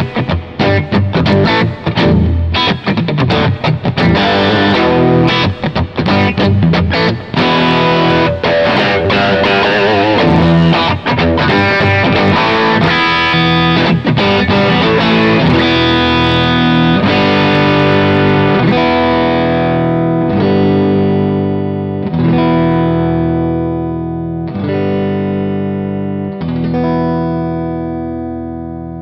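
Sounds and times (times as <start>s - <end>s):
electric guitar chords: 0.0s - 29.0s.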